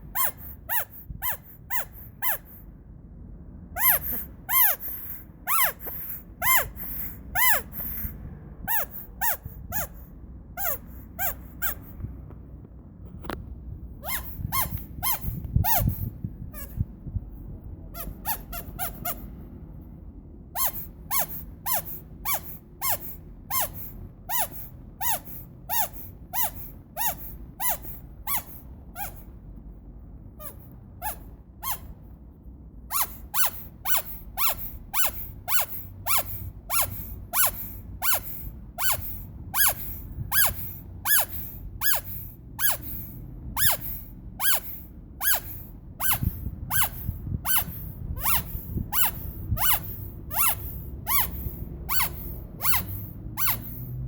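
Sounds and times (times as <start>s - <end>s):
rubber squeaky toy squeaking: 0.0s - 2.7s, 3.7s - 12.2s, 13.2s - 19.4s, 20.4s - 29.4s, 30.3s - 32.2s, 32.8s - 54.0s
steady low rumble: 0.0s - 53.4s.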